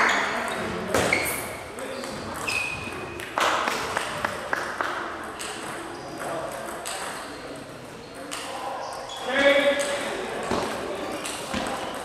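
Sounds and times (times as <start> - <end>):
table tennis balls bouncing: 0.0 - 8.7, 9.4 - 12.0
faint background chatter: 0.0 - 12.0.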